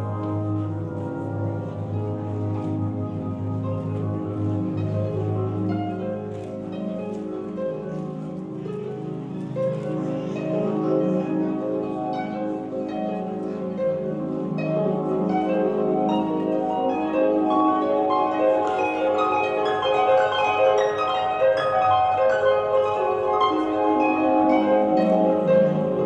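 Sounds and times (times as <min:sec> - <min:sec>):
harp playing: 0:00.0 - 0:26.0.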